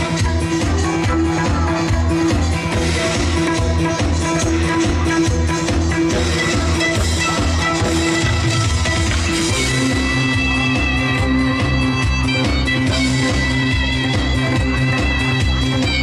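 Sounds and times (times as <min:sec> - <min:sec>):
instrumental band backing track: 0:00.0 - 0:16.0.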